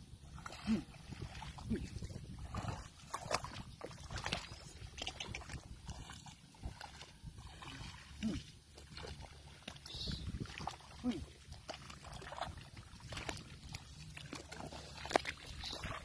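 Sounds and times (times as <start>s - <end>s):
steps splashing in mud: 0.4s - 16.0s.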